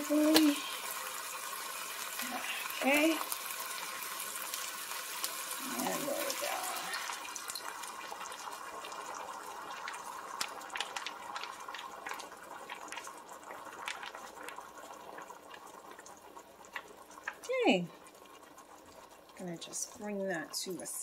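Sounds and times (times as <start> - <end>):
sauce sizzling and popping in a pan: 0.0 - 21.0.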